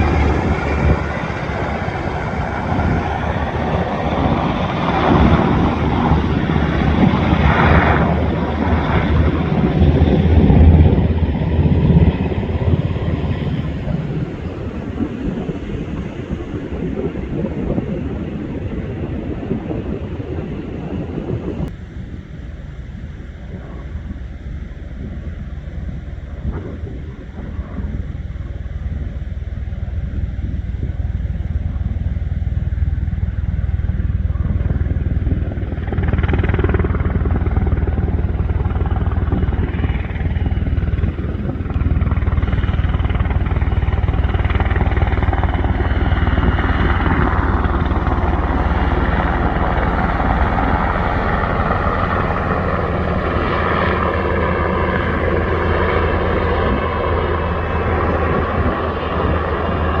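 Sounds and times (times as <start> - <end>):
helicopter flying low: 0.0 - 60.0.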